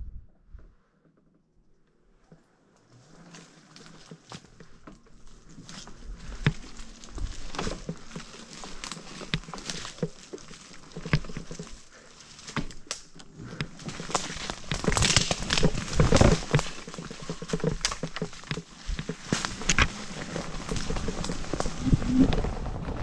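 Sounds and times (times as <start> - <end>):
bike tyres crackling on rough ground: 2.0 - 23.0
bike knocks and rattles: 3.1 - 23.0.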